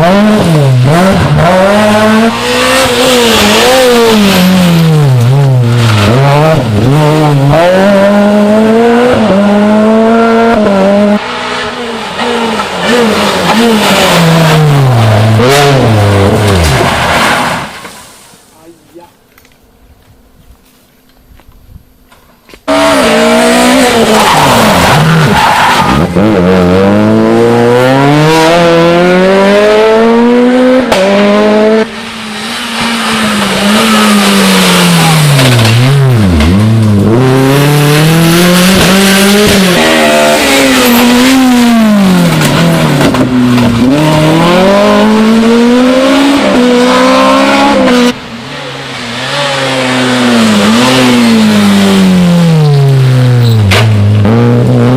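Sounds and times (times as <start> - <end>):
rally car engines revving: 0.0 - 18.0, 22.6 - 54.9.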